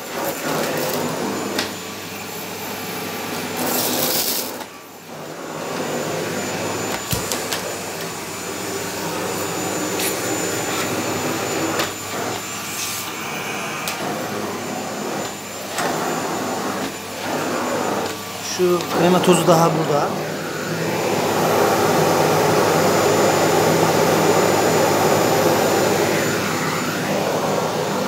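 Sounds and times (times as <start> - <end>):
vacuum cleaner on carpet: 0.0 - 28.0.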